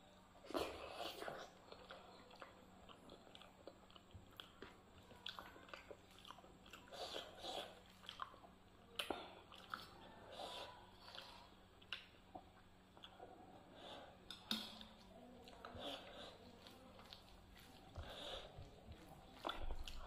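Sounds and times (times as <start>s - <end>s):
wet squishing of food mixing: 0.0s - 20.0s
chewing: 0.4s - 20.0s.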